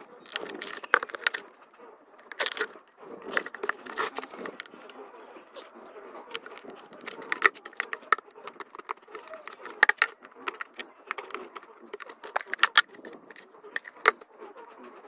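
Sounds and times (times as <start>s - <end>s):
cutter scraping plastic bucket: 0.0s - 1.5s, 2.2s - 14.8s.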